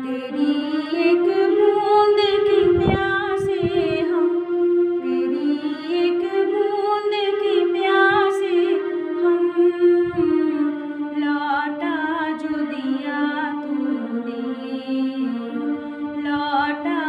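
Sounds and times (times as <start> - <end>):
woman singing: 0.0 - 4.4, 5.0 - 17.0.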